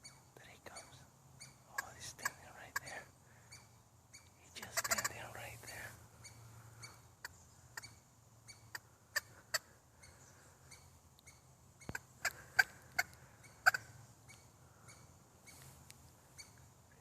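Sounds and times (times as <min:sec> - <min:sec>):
squirrels alarm calls: 0:00.0 - 0:17.0.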